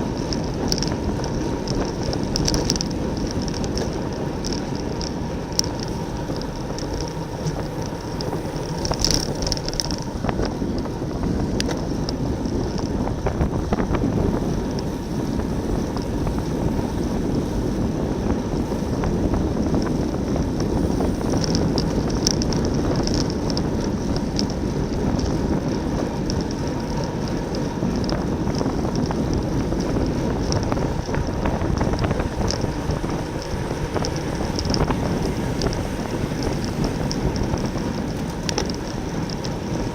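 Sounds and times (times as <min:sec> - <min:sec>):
bicycle ticks and rattles: 0:00.0 - 0:39.9
wind rushing over microphone: 0:00.0 - 0:39.9.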